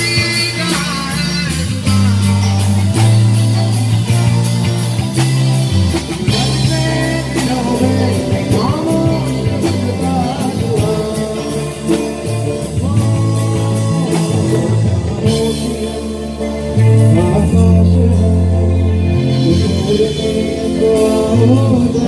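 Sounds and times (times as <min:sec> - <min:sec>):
person singing: 0:00.0 - 0:03.3, 0:06.1 - 0:22.0
bass guitar: 0:00.0 - 0:22.0
drums: 0:00.0 - 0:22.0
electric guitar: 0:00.0 - 0:22.0.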